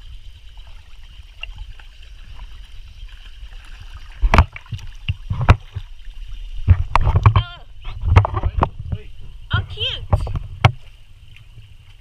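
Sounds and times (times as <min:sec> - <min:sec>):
water lapping and sloshing: 0:00.0 - 0:12.0.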